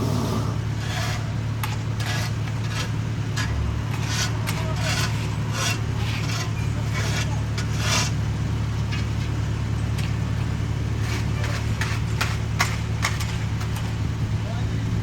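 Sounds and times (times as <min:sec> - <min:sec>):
hand tools scraping asphalt: 0:00.0 - 0:14.0
paving machine engine humming: 0:00.0 - 0:15.0.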